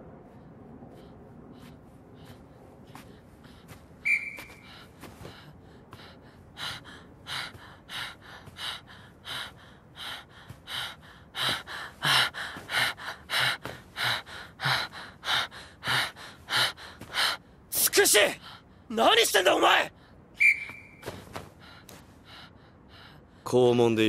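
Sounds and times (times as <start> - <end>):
boy panting: 0.4 - 19.0, 21.0 - 23.4.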